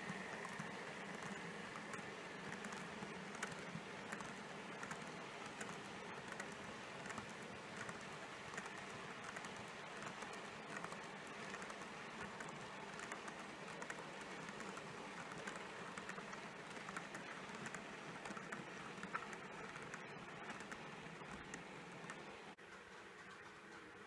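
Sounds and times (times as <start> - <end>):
model train rolling on track: 0.0 - 24.0
wheels clicking on rails: 0.0 - 24.0.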